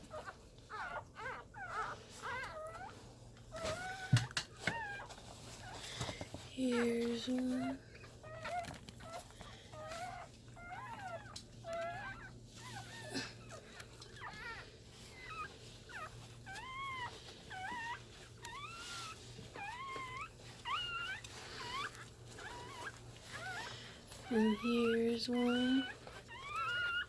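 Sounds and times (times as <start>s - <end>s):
puppies whimpering and squealing: 0.0s - 27.0s.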